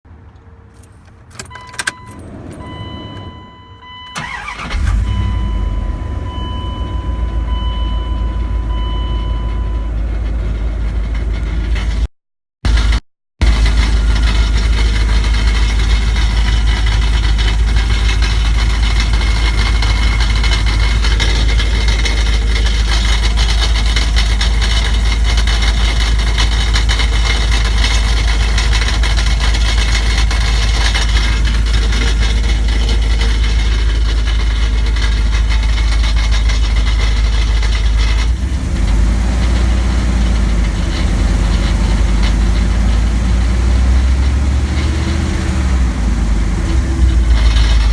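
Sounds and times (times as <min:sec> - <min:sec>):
truck engine idling with knocking: 0:00.7 - 0:47.9.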